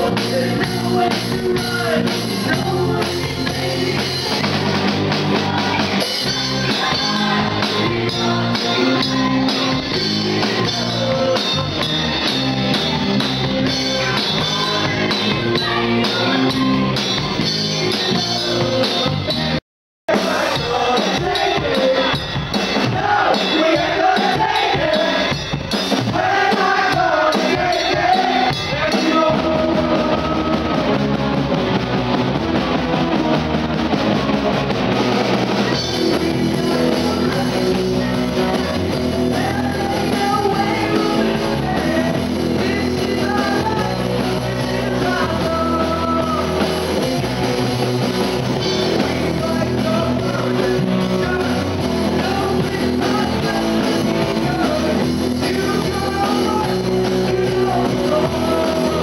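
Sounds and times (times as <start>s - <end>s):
person singing: 0.0s - 25.4s, 26.1s - 31.2s, 35.0s - 47.3s, 48.6s - 59.0s
live rock band: 0.0s - 59.0s.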